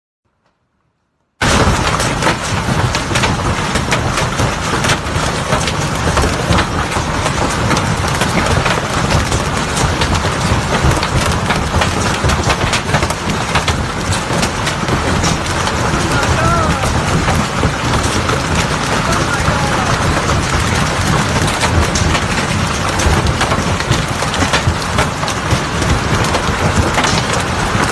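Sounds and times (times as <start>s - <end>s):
hailstones striking hard surfaces: 1.4s - 27.9s
sharp cracks of large hailstones: 1.4s - 27.9s.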